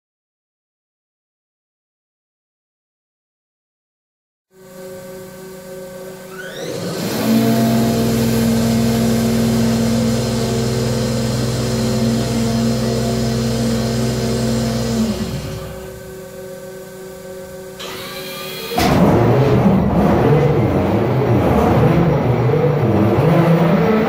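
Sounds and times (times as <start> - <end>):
engine-room hum: 4.5 - 24.0
fuel pump whine: 4.6 - 24.0.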